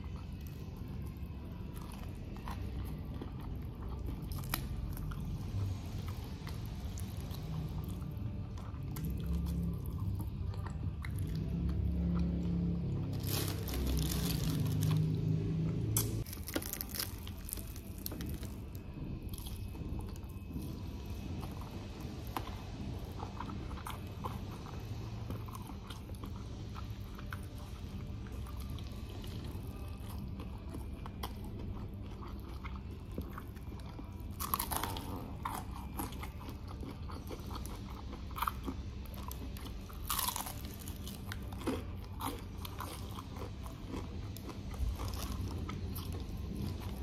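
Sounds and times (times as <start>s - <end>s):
crunching and chewing crispy food: 0.0s - 47.0s
steady low hum: 0.0s - 47.0s.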